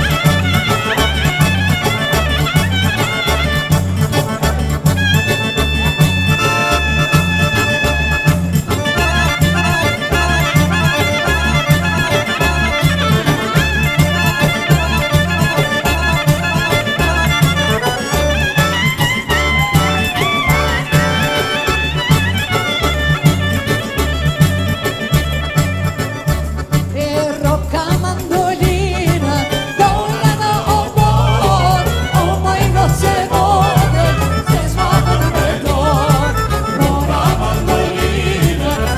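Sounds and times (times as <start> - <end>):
pounding bass beat: 0.0 - 38.9
upbeat folk-pop band music: 0.0 - 38.9.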